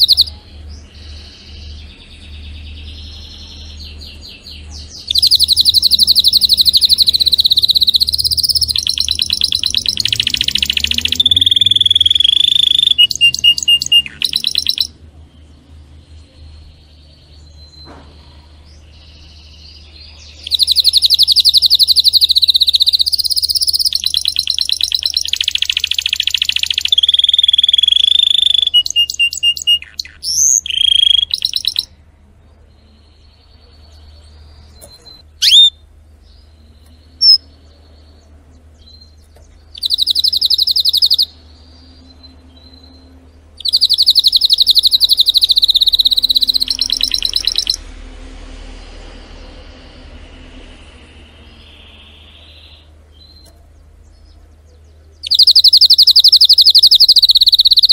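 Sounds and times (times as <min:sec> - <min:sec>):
canary chirps: 0:00.0 - 0:57.9
canary singing trills: 0:00.0 - 0:57.9.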